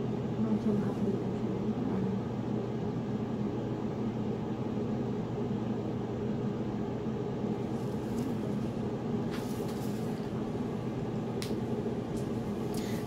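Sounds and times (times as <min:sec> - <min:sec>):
mechanical hum of room equipment: 0:00.0 - 0:13.0.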